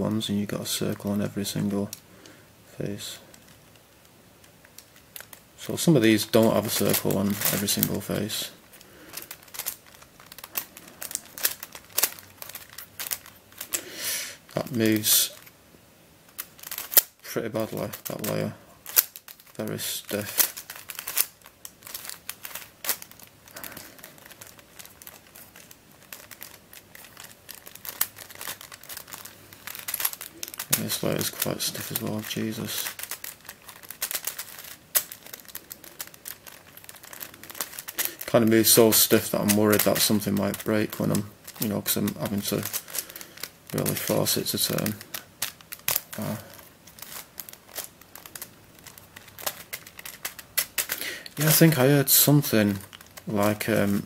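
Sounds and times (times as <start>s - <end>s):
twisty puzzle clicking and scraping: 3.3s - 13.8s, 16.3s - 54.0s.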